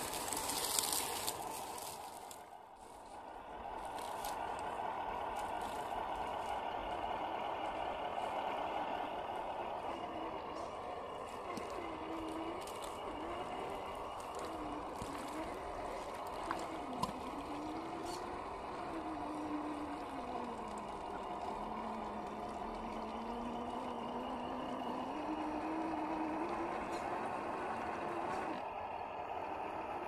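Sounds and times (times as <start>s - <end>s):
electric motor whine: 0.0s - 30.0s
wheels churning in mud: 0.0s - 30.0s.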